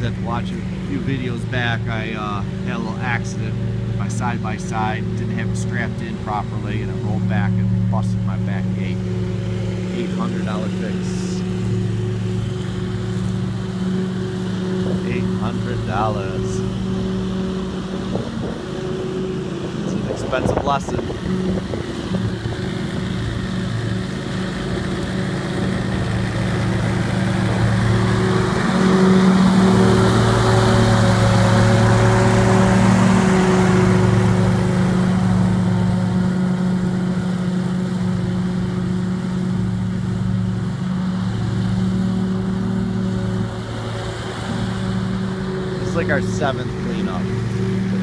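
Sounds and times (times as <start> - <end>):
lawn mower engine running: 0.0 - 48.0
rushing noise from mower bagger: 8.8 - 48.0.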